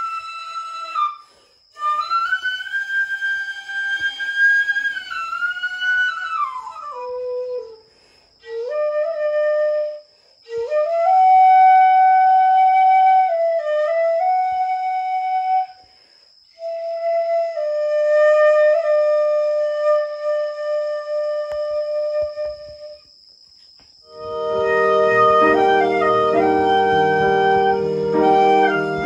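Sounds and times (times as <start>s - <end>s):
bamboo flute melody: 0.0s - 1.2s, 1.8s - 15.8s, 16.6s - 23.1s, 24.1s - 29.0s.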